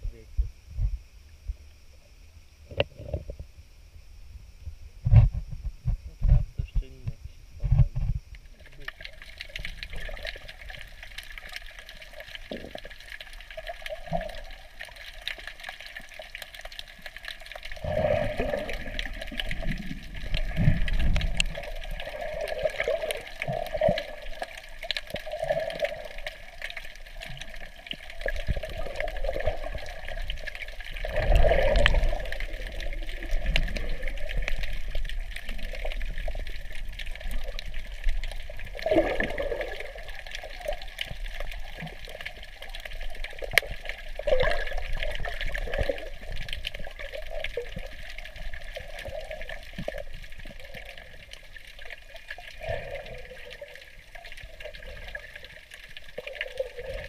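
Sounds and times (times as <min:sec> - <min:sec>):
muffled underwater rushing water: 0:04.7 - 0:57.0.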